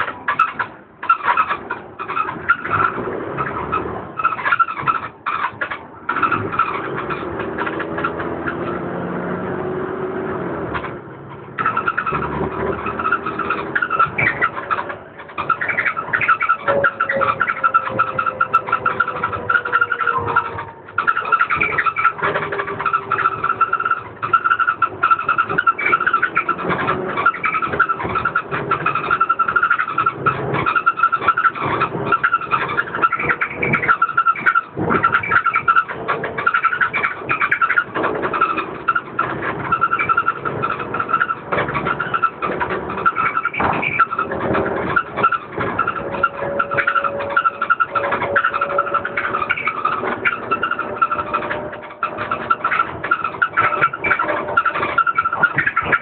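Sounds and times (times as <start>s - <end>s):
diesel bus engine droning: 0.0s - 56.0s
panels rattling: 0.0s - 56.0s.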